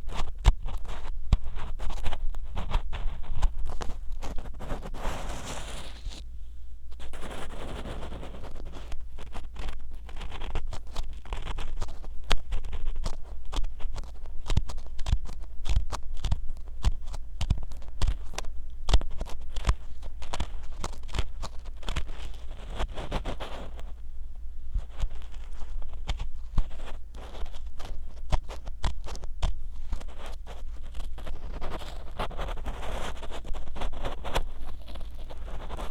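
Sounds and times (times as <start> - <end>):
ear pick scraping microphone: 0.0 - 6.3, 6.9 - 35.9.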